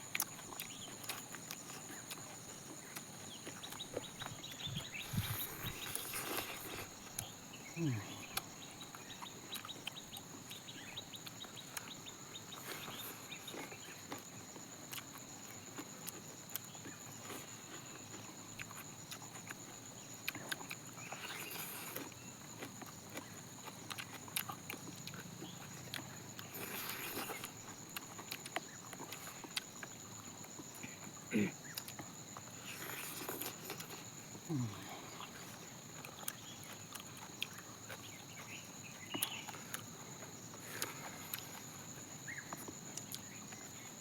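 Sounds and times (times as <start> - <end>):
crunchy bites: 0.0 - 43.9
chewing and lip-smacking: 0.0 - 44.0
high insect drone: 0.0 - 44.0.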